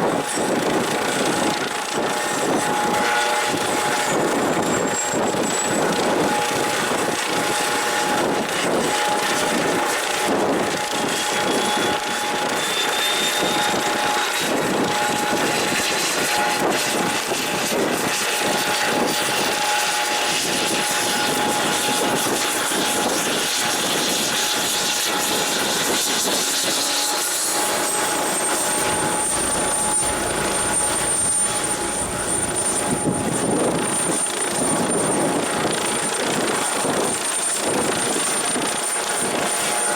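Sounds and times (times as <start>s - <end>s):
high turbine whine: 0.0s - 38.7s
helicopter turbines and rotors: 0.0s - 39.9s.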